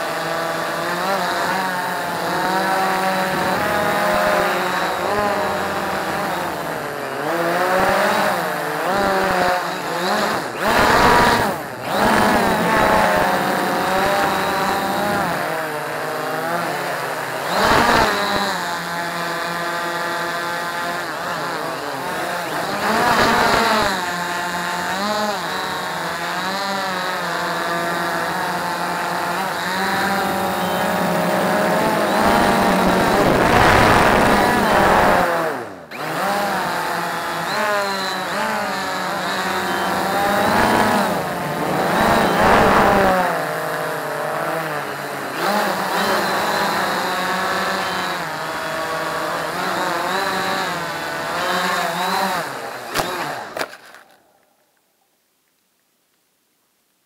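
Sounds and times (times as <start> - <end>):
drone motors and propellers whining: 0.0 - 54.3.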